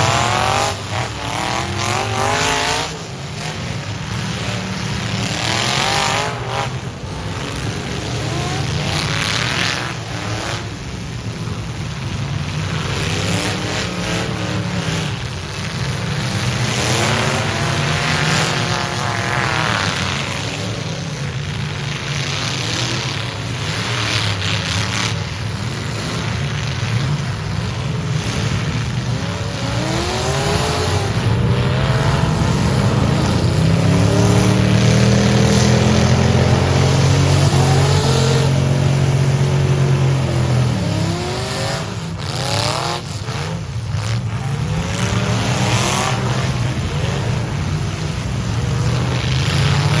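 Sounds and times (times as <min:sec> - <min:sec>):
truck engines revving hard: 0:00.0 - 0:50.0.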